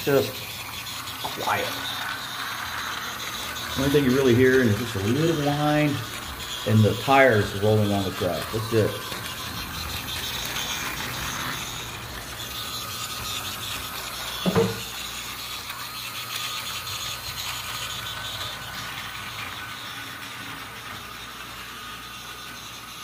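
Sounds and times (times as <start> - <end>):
toy train motor whine: 0.0 - 23.0
toy train wheels rattling: 0.0 - 23.0.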